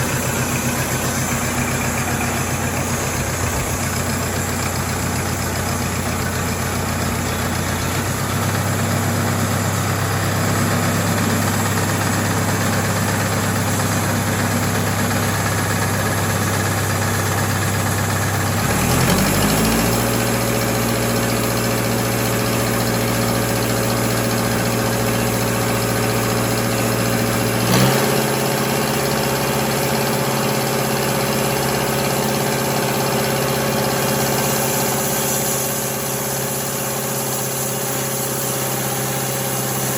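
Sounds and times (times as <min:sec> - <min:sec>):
engine knock: 0:00.0 - 0:39.9
sawmill engine running: 0:00.0 - 0:39.9.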